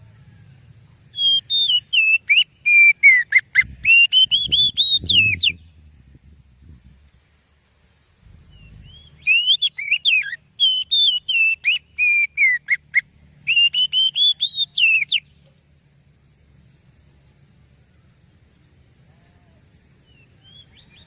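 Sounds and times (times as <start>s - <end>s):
bird singing whistled notes: 0.2s - 7.2s, 8.3s - 18.3s, 20.0s - 21.0s.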